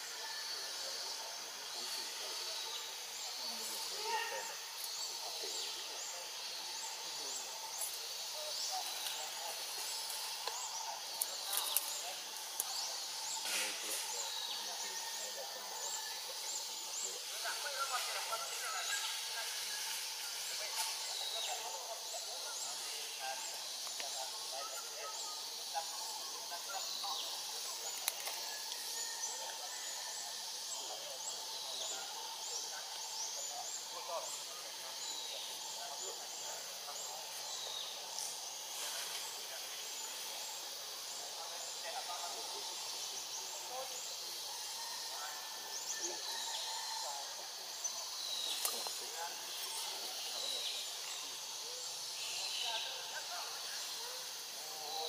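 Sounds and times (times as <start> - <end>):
faint distant voices: 0.0 - 55.0
steady hiss: 0.0 - 55.0.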